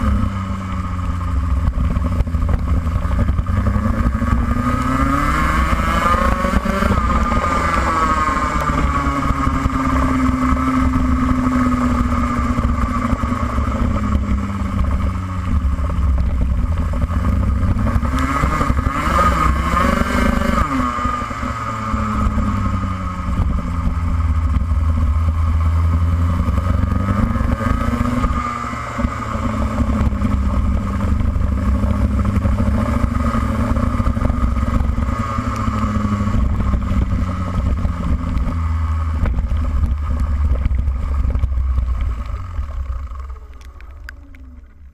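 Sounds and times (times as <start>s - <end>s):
racing kart engine revving: 0.0s - 44.9s.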